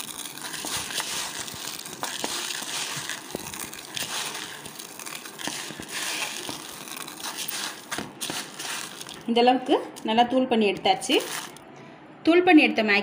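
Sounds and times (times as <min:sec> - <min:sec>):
dry noodles crushed by hand: 0:00.0 - 0:10.1, 0:10.8 - 0:11.6.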